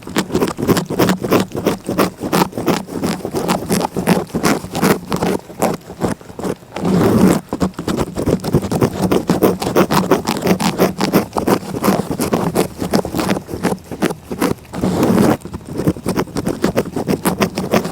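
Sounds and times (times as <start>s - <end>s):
cat licking: 0.0s - 17.9s.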